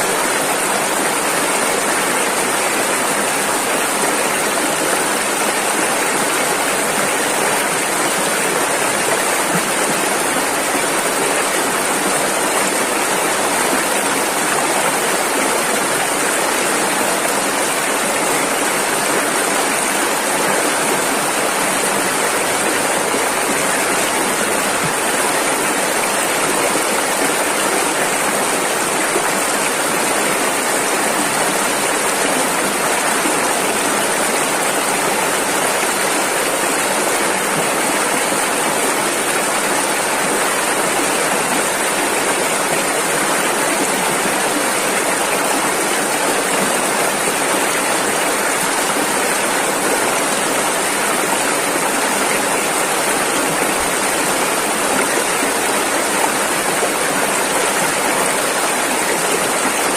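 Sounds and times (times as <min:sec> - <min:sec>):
rushing river rapids: 0:00.0 - 0:59.9.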